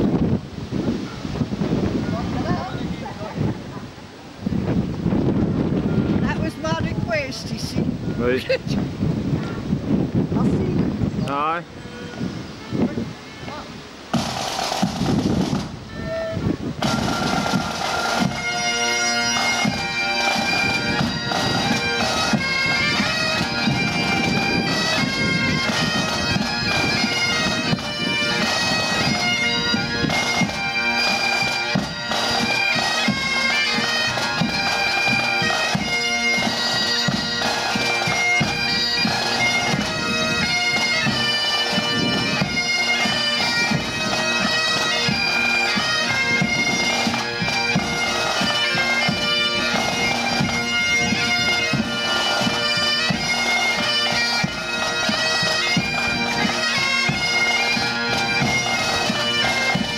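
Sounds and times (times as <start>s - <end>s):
bagpipes playing a tune: 5.8s - 8.6s, 14.1s - 59.9s.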